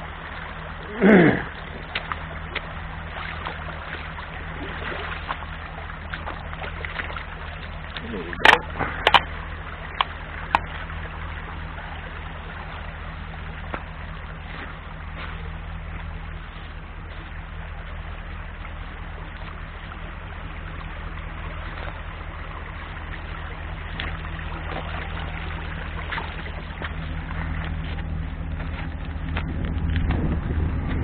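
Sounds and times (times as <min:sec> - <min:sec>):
low rumble: 0:00.0 - 0:31.0
stream trickling over rocks: 0:00.0 - 0:31.0.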